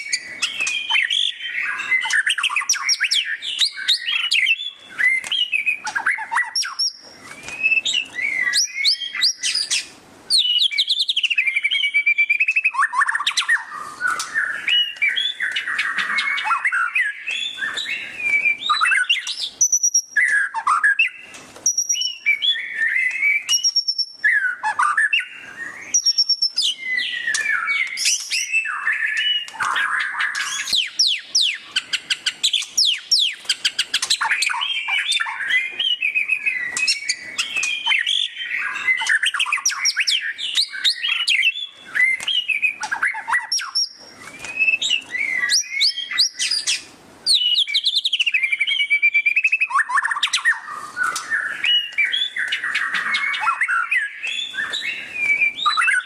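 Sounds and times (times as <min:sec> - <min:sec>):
songbird singing whistles and chatter: 0:00.0 - 0:56.0.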